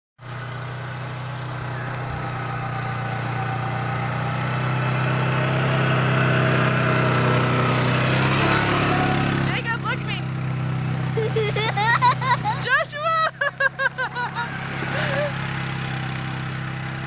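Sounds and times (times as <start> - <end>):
quad bike engine running: 0.2 - 17.0.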